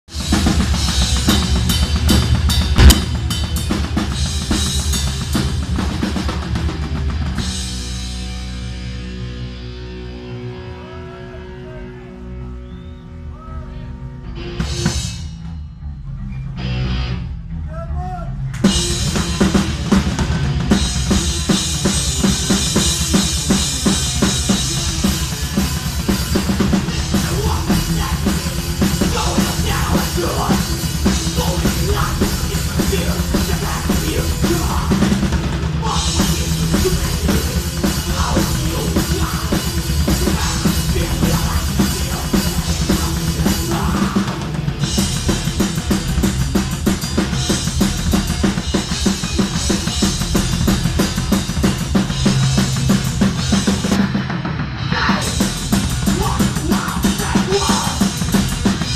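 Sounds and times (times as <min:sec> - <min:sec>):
drum kit: 0:00.0 - 0:10.2, 0:14.4 - 0:58.9
live rock band playing: 0:00.1 - 0:58.9.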